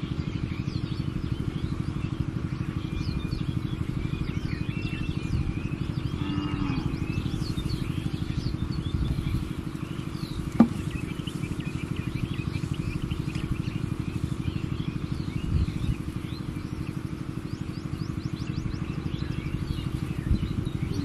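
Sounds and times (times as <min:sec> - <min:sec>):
birds chirping: 0:00.0 - 0:21.0
engine running: 0:00.0 - 0:21.0.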